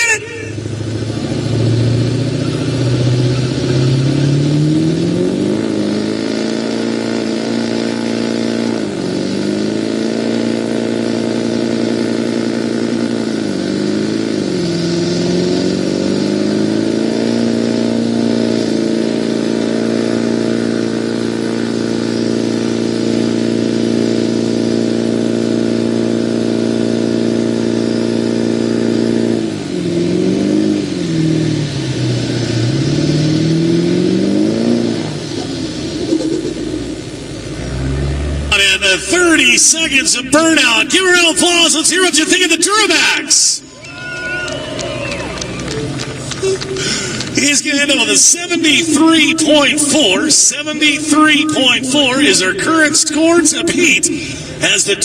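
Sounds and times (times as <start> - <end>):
diesel engine revving hard: 0.0 - 55.0.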